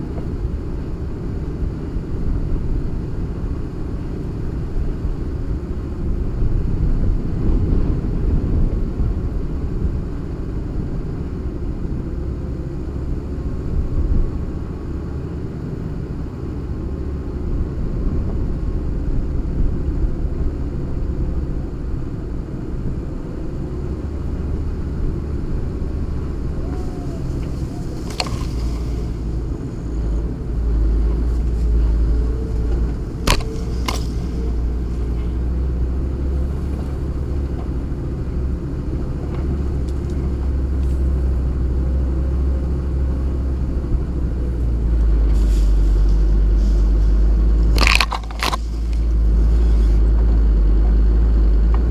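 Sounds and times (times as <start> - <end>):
diesel engine rumbling: 0.0 - 51.9.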